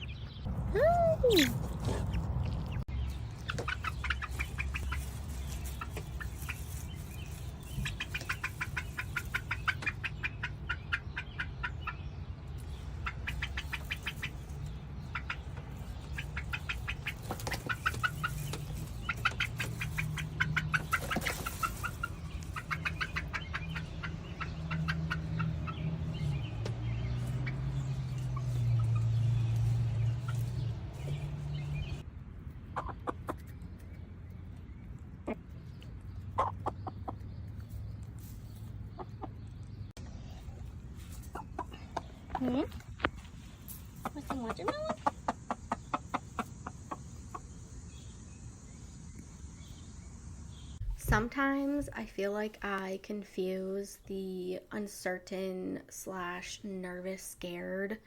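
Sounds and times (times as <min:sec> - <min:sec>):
low background hum: 0:00.0 - 0:58.0
chickens trilling: 0:00.1 - 0:33.9, 0:35.1 - 0:51.2.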